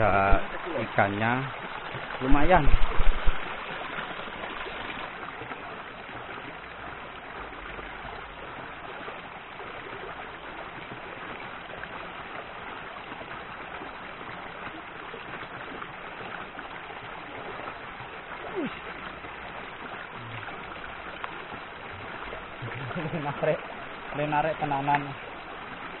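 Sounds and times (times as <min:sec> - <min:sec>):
stream flowing over stones: 0:00.0 - 0:26.0.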